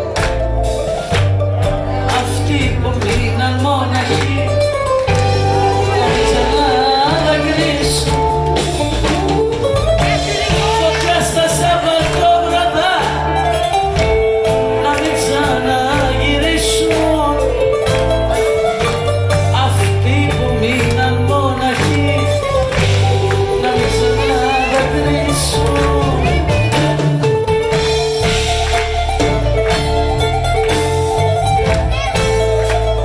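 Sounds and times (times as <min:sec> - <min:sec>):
live band playing pop song: 0:00.0 - 0:33.0.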